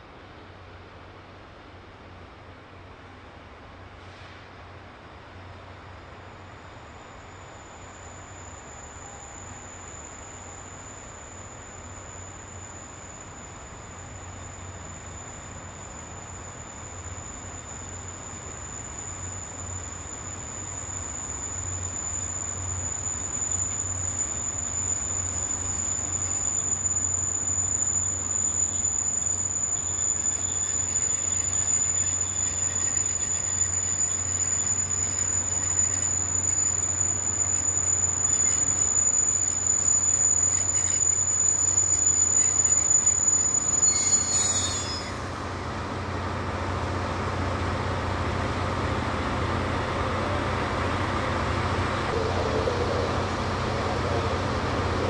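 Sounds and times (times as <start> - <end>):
diesel locomotive engine rumble: 0.0 - 55.0
train rolling: 4.6 - 55.0
thin steady high whine: 5.1 - 55.0.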